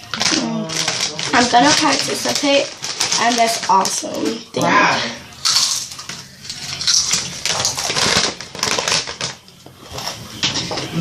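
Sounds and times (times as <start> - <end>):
crackling and crunching clicks: 0.0 - 4.3, 5.4 - 10.2.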